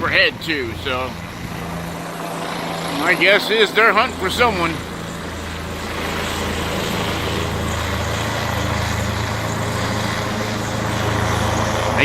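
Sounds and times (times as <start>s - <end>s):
helicopter passing overhead: 0.0s - 12.0s.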